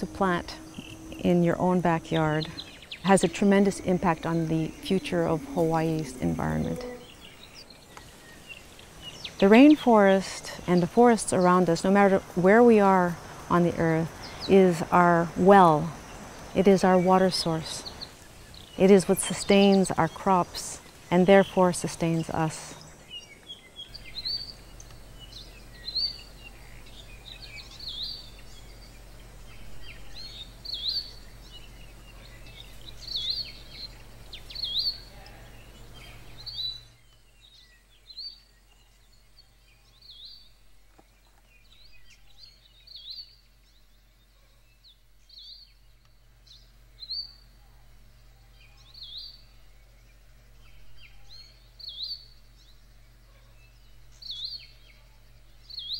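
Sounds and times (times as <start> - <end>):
bird chirping: 0.0 - 55.9
steady background hiss: 0.0 - 55.9.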